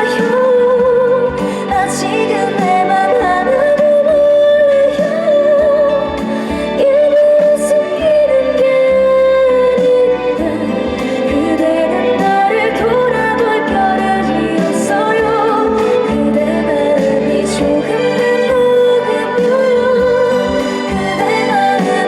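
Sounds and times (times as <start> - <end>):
slow ballad sung over a backing track: 0.0 - 22.0.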